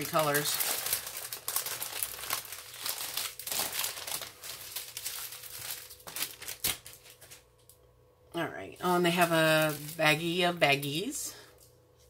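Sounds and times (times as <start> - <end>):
plastic packaging crinkling: 0.0 - 7.8, 8.8 - 11.2.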